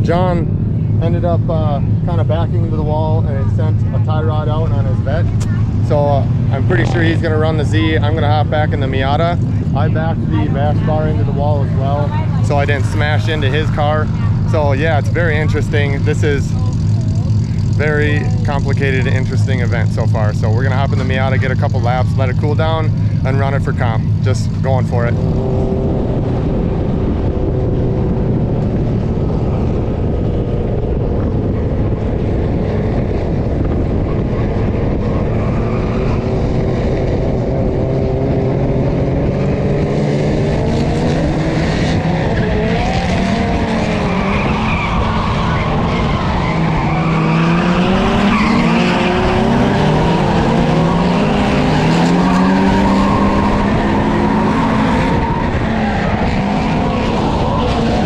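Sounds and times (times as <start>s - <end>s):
car engine revving: 0.0s - 58.0s
tires squealing: 1.9s - 58.0s.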